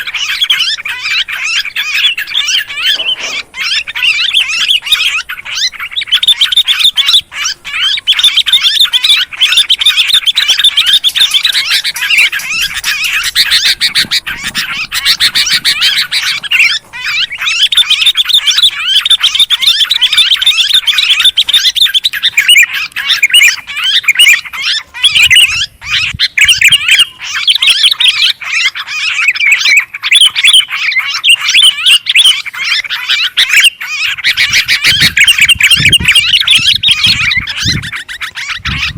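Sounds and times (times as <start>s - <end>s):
bulbuls chattering: 0.0s - 38.9s.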